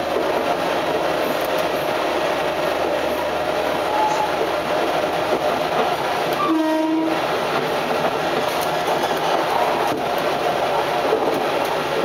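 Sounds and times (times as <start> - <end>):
diesel railcar rumble: 0.0 - 12.0.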